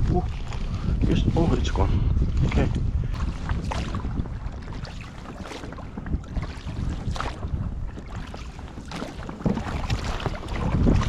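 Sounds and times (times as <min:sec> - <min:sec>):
water splashes: 0:00.0 - 0:11.0
wind buffeting microphone: 0:00.0 - 0:11.0.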